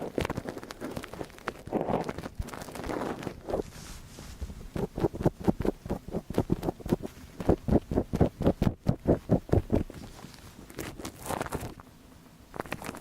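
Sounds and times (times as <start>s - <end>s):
rhythmic ear cleaning strokes: 0.0s - 11.7s.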